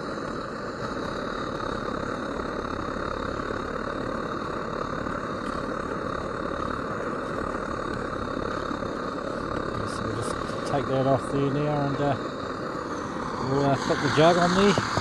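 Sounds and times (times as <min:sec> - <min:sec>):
camping stove burner rushing: 0:00.0 - 0:15.0.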